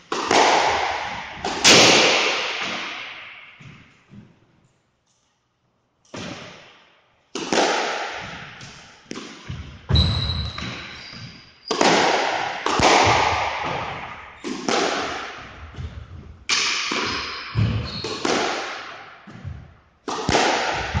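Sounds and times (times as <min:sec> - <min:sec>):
squash ball hits echoing: 0:00.0 - 0:04.0, 0:06.1 - 0:21.0.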